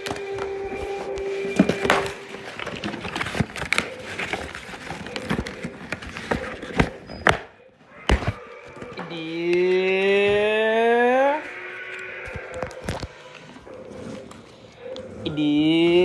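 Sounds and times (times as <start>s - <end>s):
packaging crinkling: 0.0s - 10.6s, 11.4s - 15.2s.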